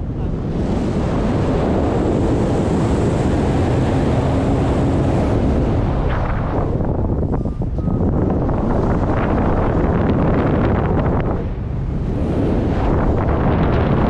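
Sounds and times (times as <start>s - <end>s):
wind roar on microphone: 0.0s - 14.0s.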